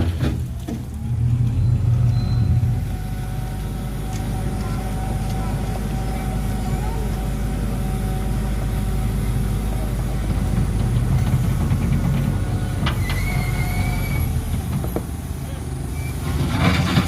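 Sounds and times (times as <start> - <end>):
truck diesel engine under load: 0.0 - 17.0.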